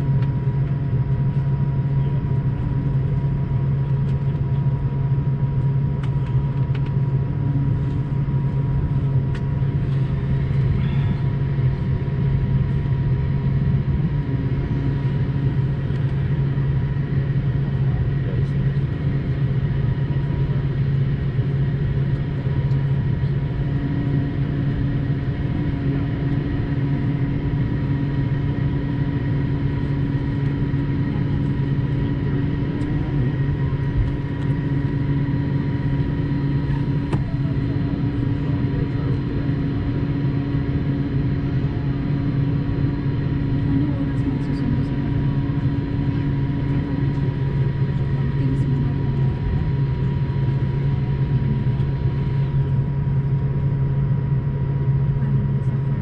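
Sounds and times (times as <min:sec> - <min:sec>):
low engine hum: 0:00.0 - 0:56.0
thin steady whine: 0:00.0 - 0:56.0.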